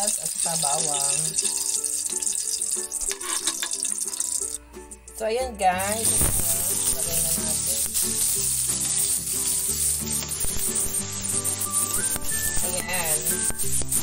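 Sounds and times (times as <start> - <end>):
metal spatula stirring in pan: 0.0 - 4.6, 5.9 - 14.0
vegetables sizzling in oil: 0.0 - 4.6, 5.8 - 14.0.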